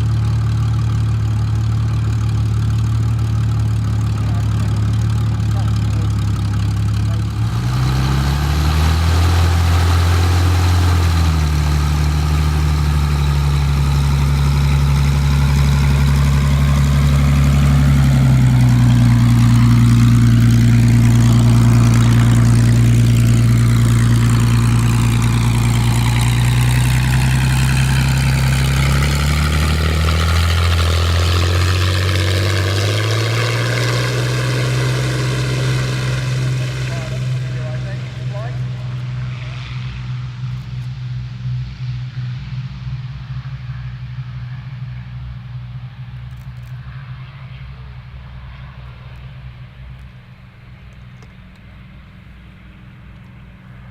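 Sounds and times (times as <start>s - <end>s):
propeller aircraft engine drone: 0.0s - 53.9s.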